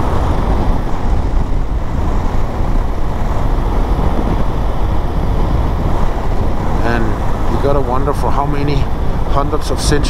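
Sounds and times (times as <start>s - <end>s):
motorcycle engine and road noise: 0.0s - 10.0s
wind rush over microphone: 0.0s - 10.0s.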